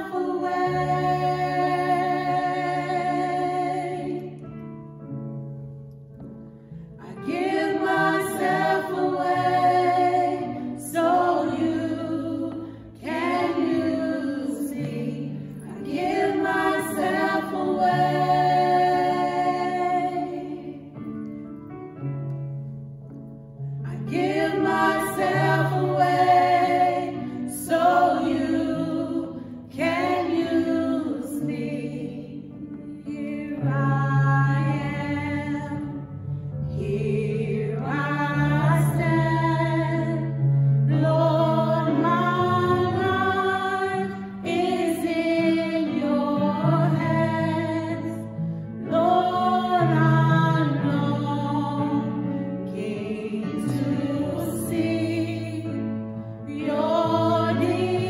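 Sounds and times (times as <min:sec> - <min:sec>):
women singing together: 0:00.0 - 0:04.4, 0:07.0 - 0:20.9, 0:23.9 - 0:36.1, 0:36.7 - 0:58.0.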